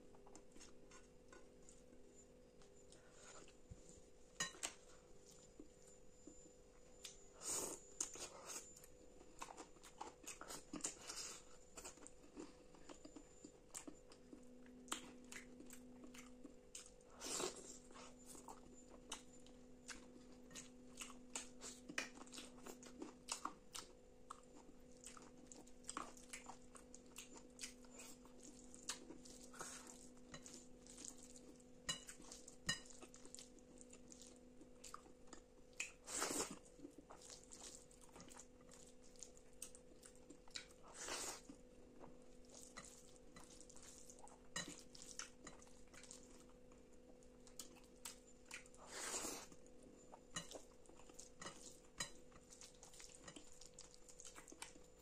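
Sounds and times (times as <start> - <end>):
wet chewing: 9.4 - 49.7, 50.3 - 55.0.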